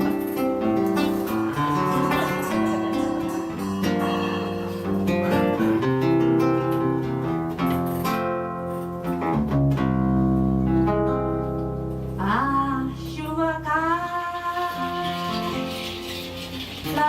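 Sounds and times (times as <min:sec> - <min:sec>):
acoustic guitars strumming samba: 0:00.0 - 0:17.0.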